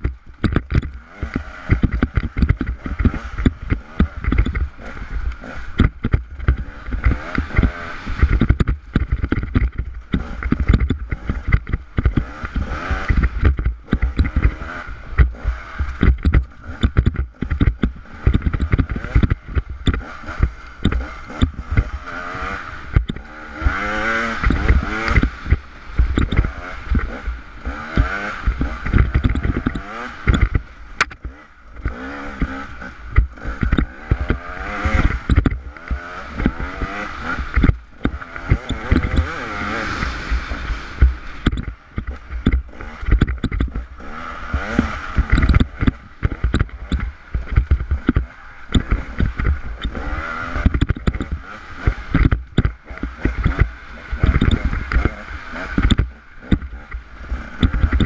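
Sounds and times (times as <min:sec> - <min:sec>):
knocks and rattles on rocky ground: 0:00.0 - 0:58.0
motorcycle engine revving: 0:00.0 - 0:58.0.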